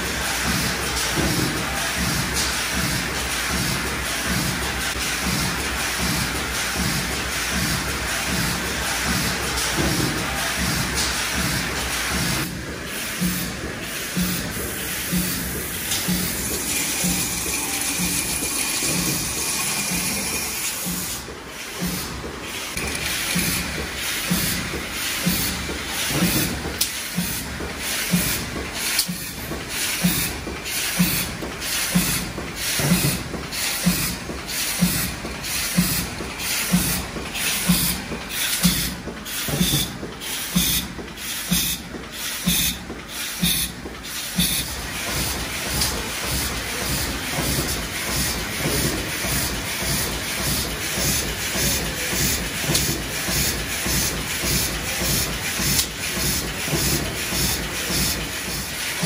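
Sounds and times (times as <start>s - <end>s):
machine hissing: 0.0s - 59.0s
steady mechanical hum: 0.0s - 59.0s.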